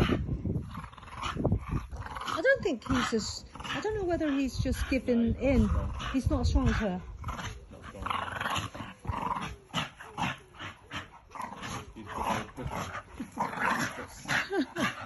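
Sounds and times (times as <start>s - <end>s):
dogs growling in play: 0.0s - 15.0s.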